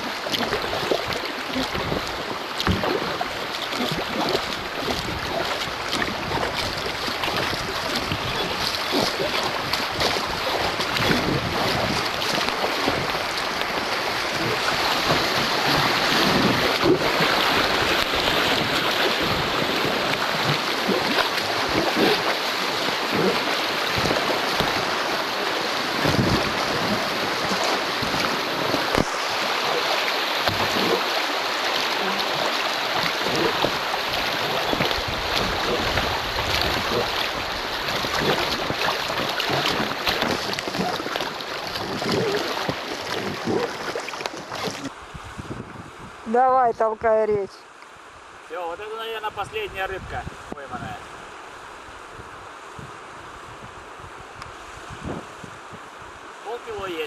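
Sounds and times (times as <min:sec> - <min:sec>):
river water rushing and splashing: 0:00.0 - 0:57.0.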